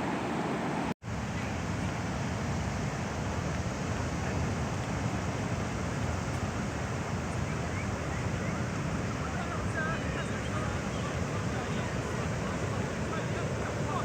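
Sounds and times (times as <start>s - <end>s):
sea waves breaking on shore: 0.0s - 14.0s.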